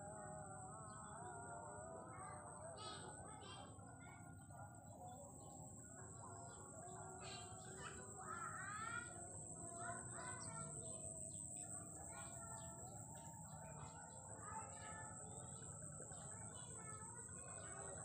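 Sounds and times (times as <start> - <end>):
steady high-pitched whine: 0.0 - 18.0
small birds chirping: 2.7 - 18.0.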